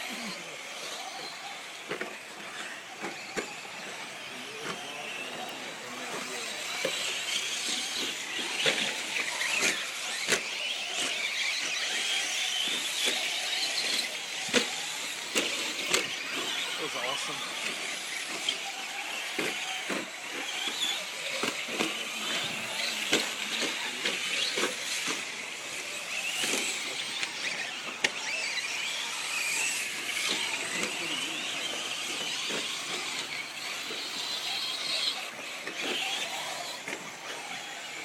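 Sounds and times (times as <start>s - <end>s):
high-pitched rc motor whine: 0.0s - 38.0s.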